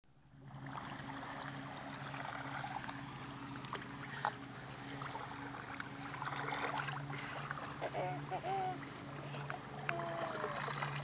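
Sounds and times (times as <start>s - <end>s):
pool water lapping and splashing: 0.1s - 11.0s
steady low hum: 0.1s - 11.0s.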